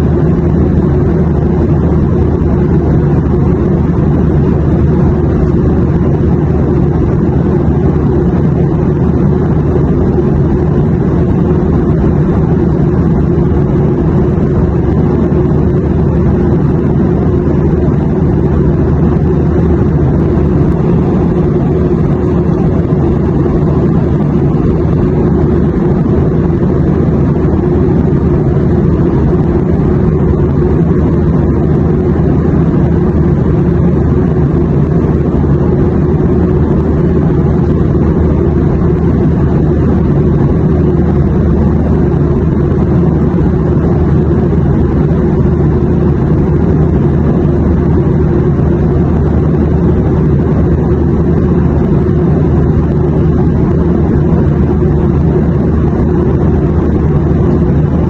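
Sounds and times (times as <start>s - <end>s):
airplane drone: 0.0s - 58.0s.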